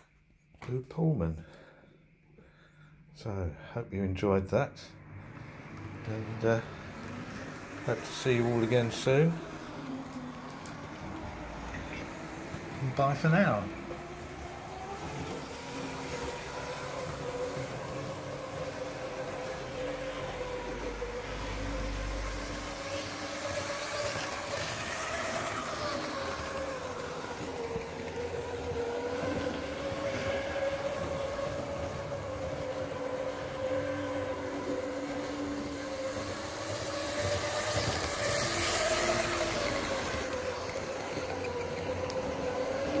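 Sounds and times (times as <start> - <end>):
model train motor whine: 5.1 - 43.0.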